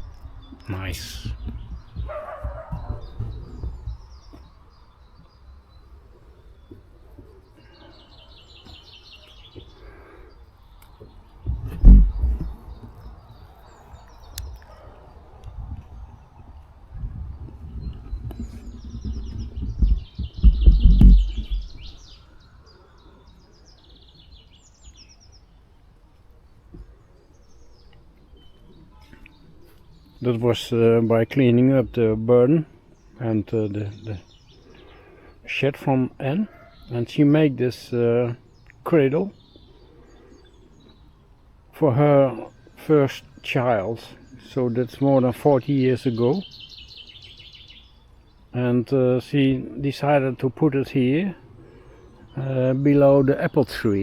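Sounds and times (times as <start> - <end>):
small birds chirping: 0.0 - 54.0
songbird singing: 0.0 - 54.0.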